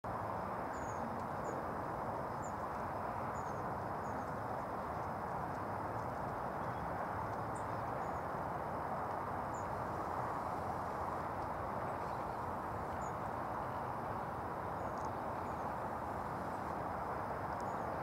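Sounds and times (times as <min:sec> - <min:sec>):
low background hiss: 0:00.1 - 0:18.0.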